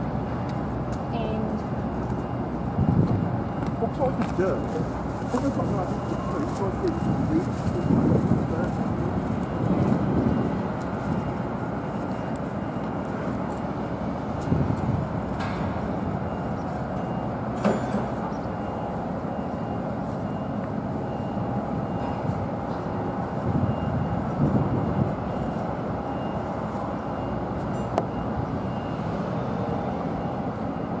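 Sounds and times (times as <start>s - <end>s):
low rumble of engines and machinery: 0.0s - 31.0s.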